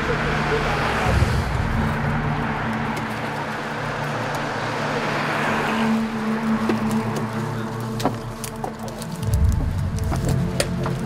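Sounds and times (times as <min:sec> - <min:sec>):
vehicle engine humming: 0:00.0 - 0:11.0
vehicle passing: 0:00.0 - 0:11.0.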